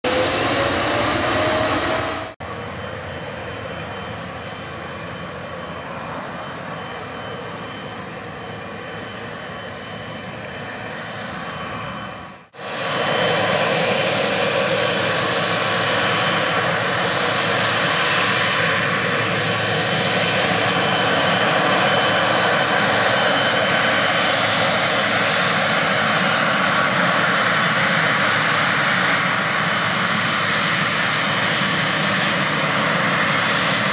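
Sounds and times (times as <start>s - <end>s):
jet engine fan whine: 0.0s - 33.9s
jet engines rumbling: 0.0s - 33.9s.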